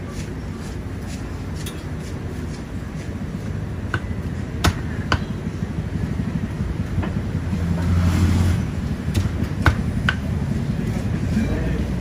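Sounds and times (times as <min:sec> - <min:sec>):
steady low rumble: 0:00.0 - 0:12.0
low motor hum: 0:02.2 - 0:12.0.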